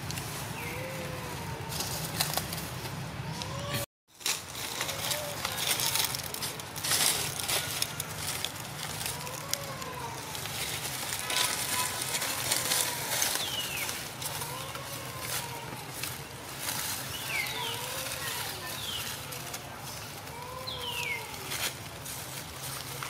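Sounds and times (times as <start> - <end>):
dry leaves rustling: 0.0 - 23.0.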